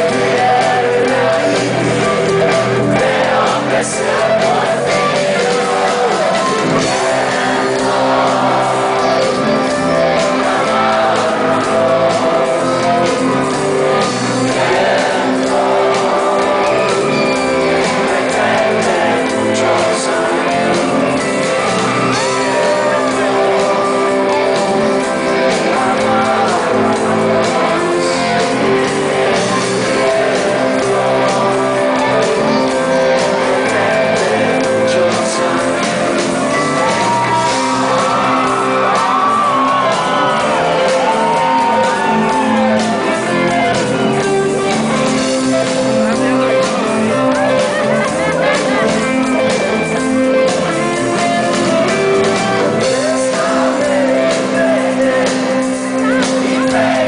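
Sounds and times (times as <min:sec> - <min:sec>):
drums: 0:00.0 - 0:57.0
electric guitar: 0:00.0 - 0:57.0
keyboards: 0:00.0 - 0:57.0
voices singing: 0:00.0 - 0:57.0.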